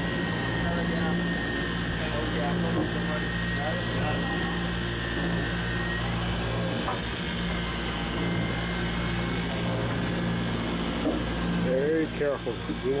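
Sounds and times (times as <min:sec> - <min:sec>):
boat machinery droning: 0:00.0 - 0:13.0.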